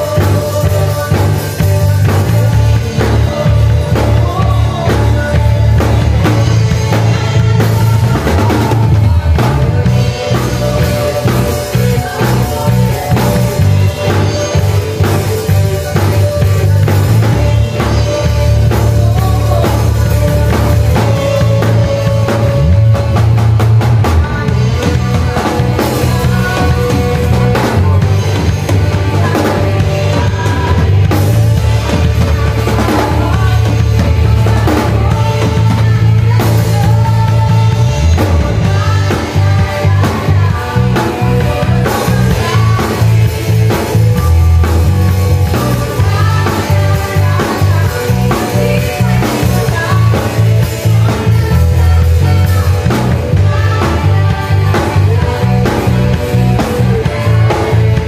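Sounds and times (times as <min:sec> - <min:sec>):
drum kit beat with cymbals: 0:00.0 - 0:58.0
electric bass guitar: 0:00.0 - 0:58.0.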